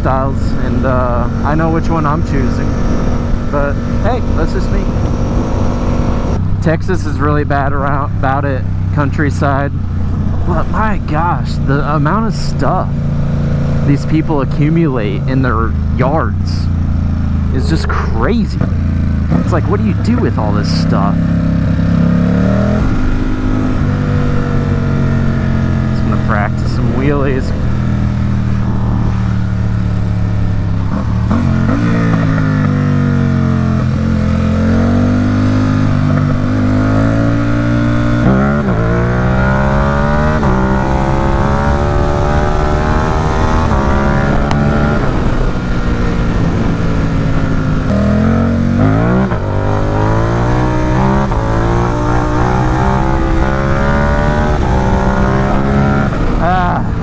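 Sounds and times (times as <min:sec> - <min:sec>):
motorcycle engine revving hard: 0:00.0 - 0:57.0.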